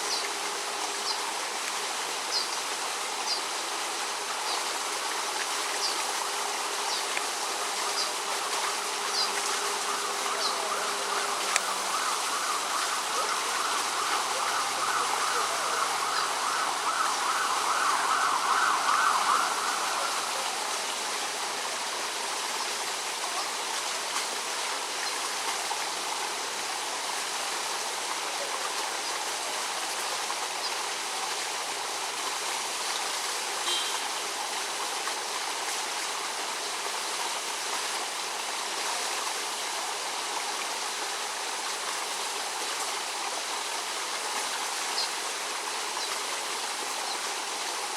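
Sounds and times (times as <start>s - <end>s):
rushing outdoor noise: 0.0s - 47.9s.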